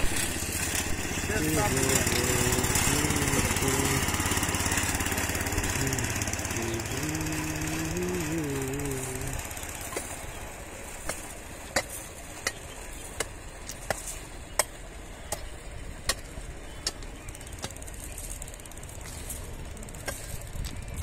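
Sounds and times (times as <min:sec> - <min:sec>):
trolley engine rumble: 0:00.0 - 0:21.0
wheels clicking on rails: 0:00.0 - 0:21.0.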